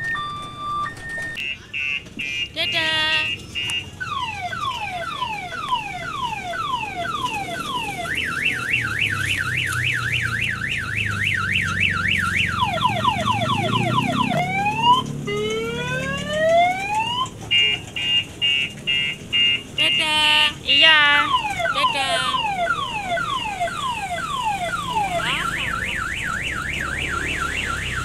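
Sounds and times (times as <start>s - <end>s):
electronic siren cycling tones: 0.0s - 28.0s.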